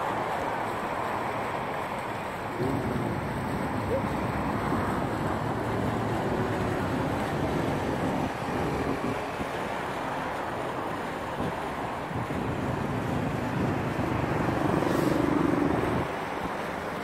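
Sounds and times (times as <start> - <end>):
road traffic rushing: 0.0 - 17.0
wind buffeting microphone: 2.5 - 16.6.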